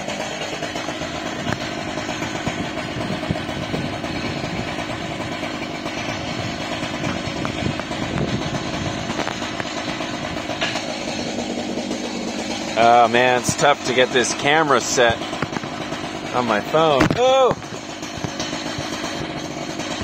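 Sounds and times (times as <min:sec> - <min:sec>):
chainsaw ripping log: 0:00.0 - 0:20.0.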